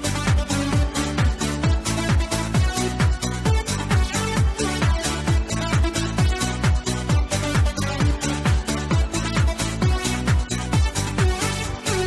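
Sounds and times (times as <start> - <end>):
electronic dance music: 0.0 - 12.0
kick drum: 0.0 - 12.0.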